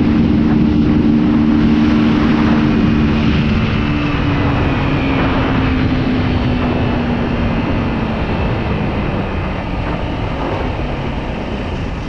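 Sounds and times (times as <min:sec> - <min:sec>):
motorcycle engine running: 0:00.0 - 0:12.0
wind rushing on microphone: 0:00.0 - 0:12.0.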